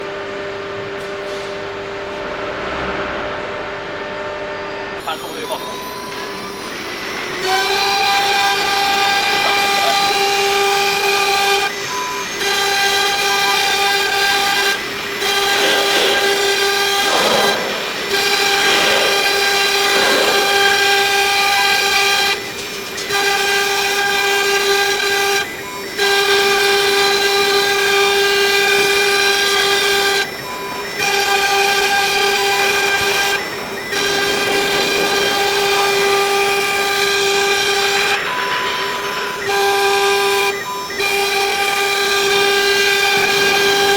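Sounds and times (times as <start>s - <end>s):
router motor whine: 0.0s - 43.9s.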